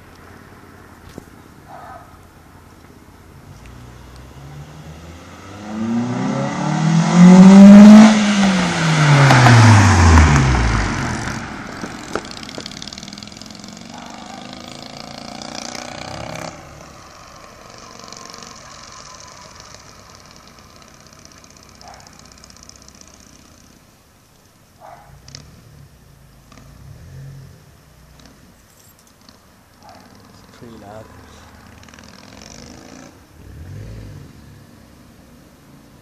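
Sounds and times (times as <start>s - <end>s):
car engine accelerating: 2.3s - 24.0s, 25.1s - 36.0s.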